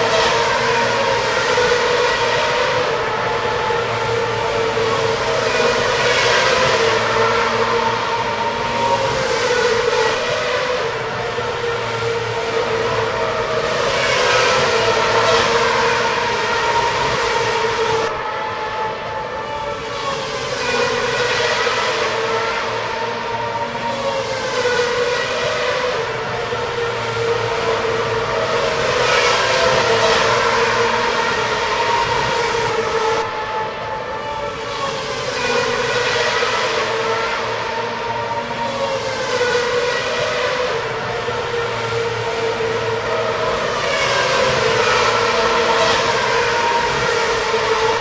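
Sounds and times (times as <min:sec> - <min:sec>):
racing car engines passing: 0:00.0 - 0:48.0.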